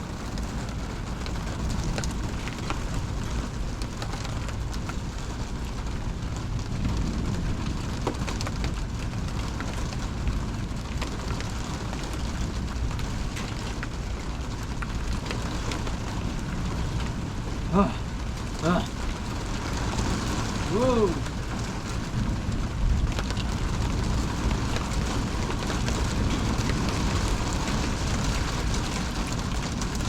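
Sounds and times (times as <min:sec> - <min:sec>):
heavy rain pattering: 0:00.0 - 0:30.0.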